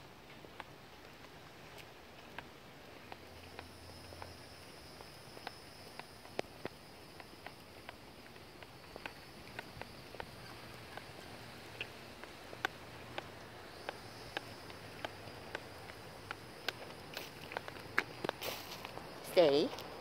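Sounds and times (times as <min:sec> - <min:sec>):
footsteps on pavement: 0:00.0 - 0:20.0
dog claws on asphalt: 0:00.4 - 0:19.9.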